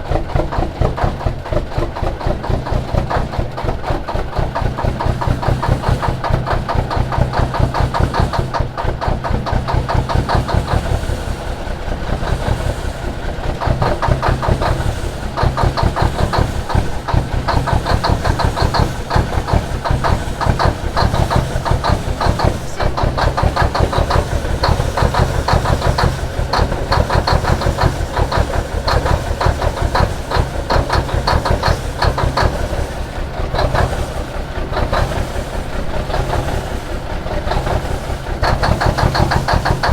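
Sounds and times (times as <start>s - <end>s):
diesel engine cranking: 0.0s - 39.9s.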